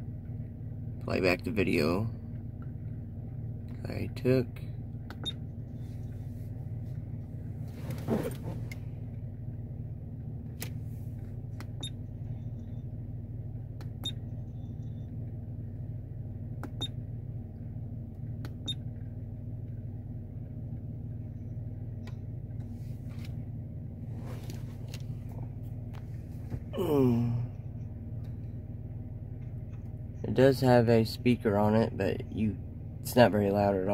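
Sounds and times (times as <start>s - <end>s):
car engine rumble from inside: 0.0s - 33.9s.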